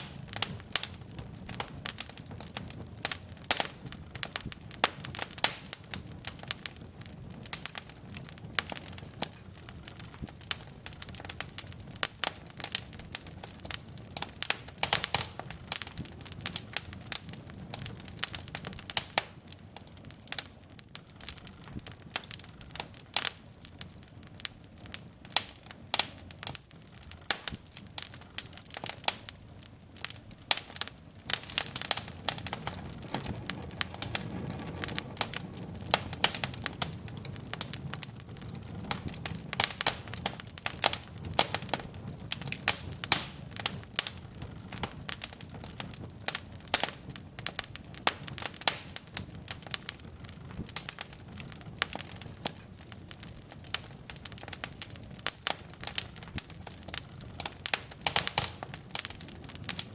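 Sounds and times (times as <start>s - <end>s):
logs crackling and popping: 0.0s - 59.9s
low rush of flame: 0.0s - 59.9s.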